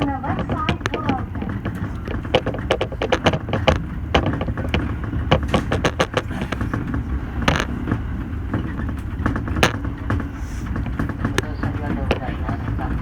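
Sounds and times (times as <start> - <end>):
subway train rumble: 0.0 - 13.0
train clicks and rattles: 0.0 - 13.0
train knocks: 0.0 - 13.0.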